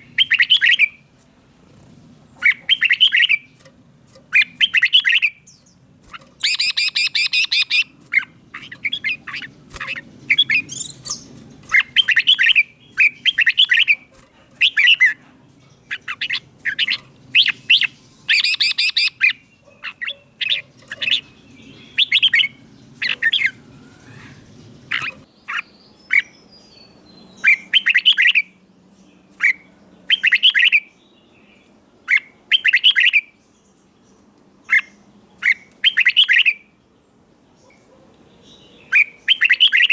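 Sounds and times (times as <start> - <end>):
bulbul singing: 0.0 - 36.7, 37.6 - 39.9.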